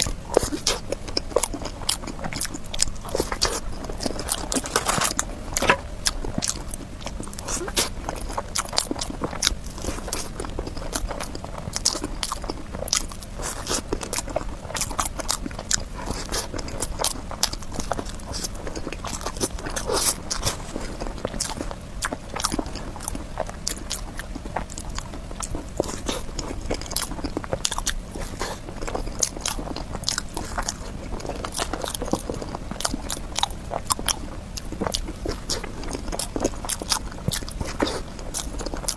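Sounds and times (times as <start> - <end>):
biting and chewing: 0.0 - 38.9.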